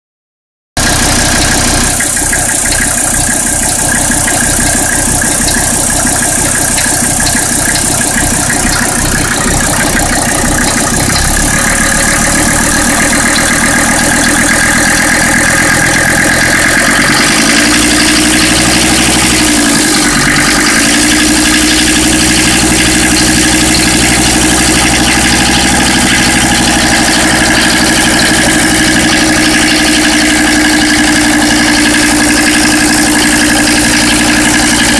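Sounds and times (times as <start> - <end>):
diesel engine idling with knocking: 0.8 - 34.9.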